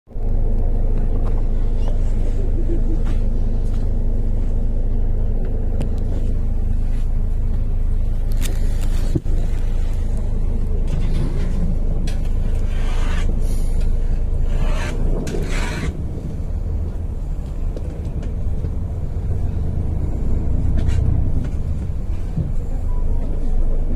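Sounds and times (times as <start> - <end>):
bus engine rumbling: 0.1 - 23.9.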